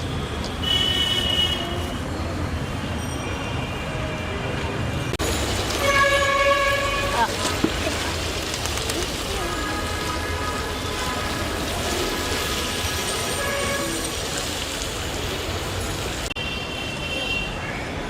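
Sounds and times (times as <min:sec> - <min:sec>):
outdoor traffic noise: 0:00.0 - 0:18.0.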